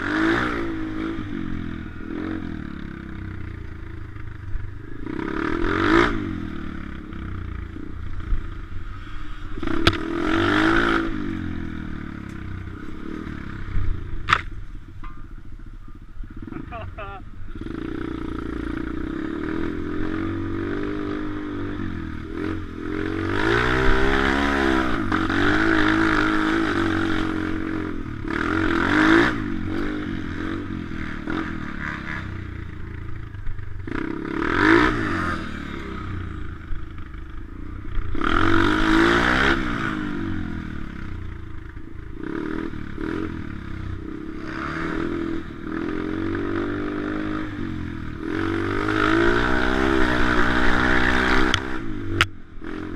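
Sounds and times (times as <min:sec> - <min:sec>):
pit bike engine revving: 0:00.0 - 0:15.5, 0:16.2 - 0:52.9.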